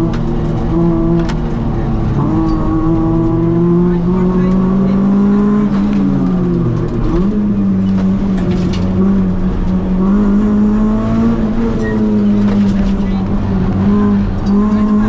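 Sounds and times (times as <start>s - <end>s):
car engine revving from inside: 0.0s - 15.0s.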